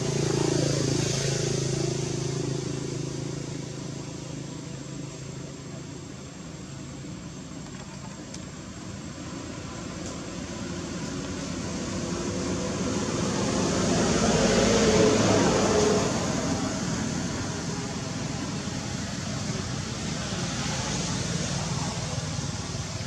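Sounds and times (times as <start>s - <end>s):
motor traffic engine noise: 0.0s - 23.0s.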